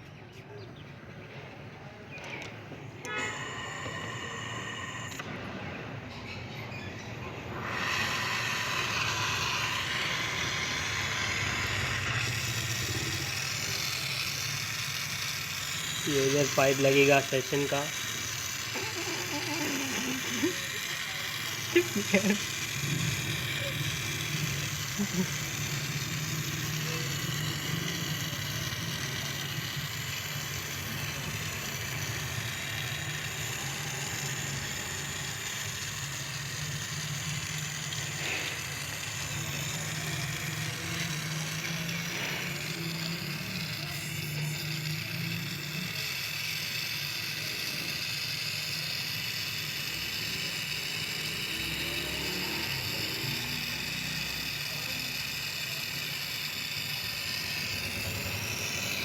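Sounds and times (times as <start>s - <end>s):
faint mechanical clicks and rattles: 0.0s - 59.0s
low machine hum: 0.0s - 59.0s.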